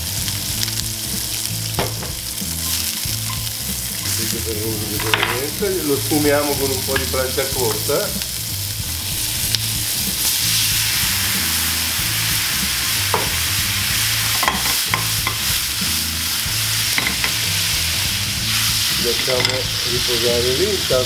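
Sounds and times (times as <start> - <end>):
prawns sizzling in oil: 0.0 - 21.0.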